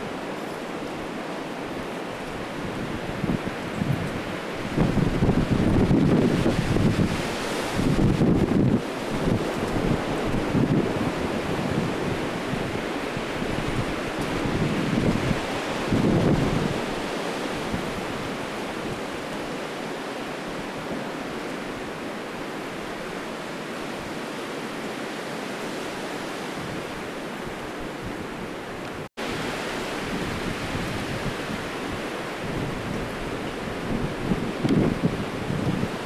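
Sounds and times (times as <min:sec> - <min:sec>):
high wind rushing: 0:00.0 - 0:21.4, 0:25.1 - 0:36.0.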